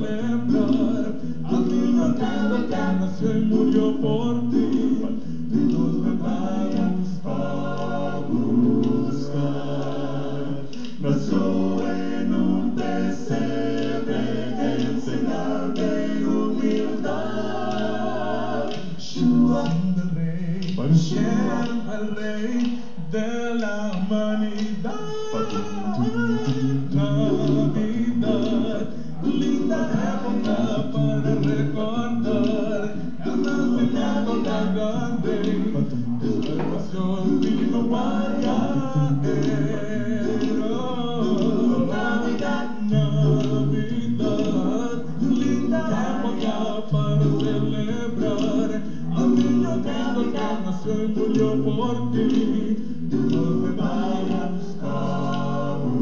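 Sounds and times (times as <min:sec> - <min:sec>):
male a cappella group singing: 0:00.0 - 0:56.0.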